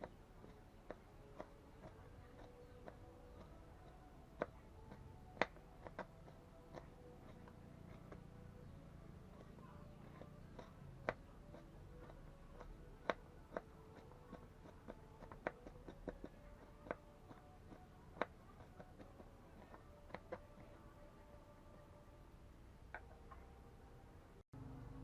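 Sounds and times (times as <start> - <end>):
sharp clicks and taps: 0.0 - 8.6, 9.3 - 20.8.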